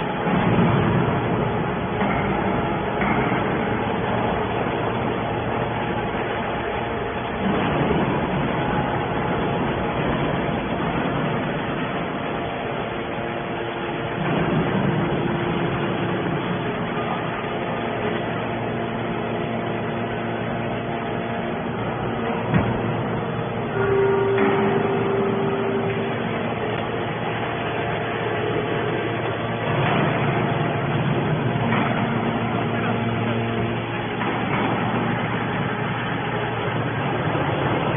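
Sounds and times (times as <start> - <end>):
faint steady whine: 0.0 - 37.9
hydraulic baler humming: 0.0 - 37.9.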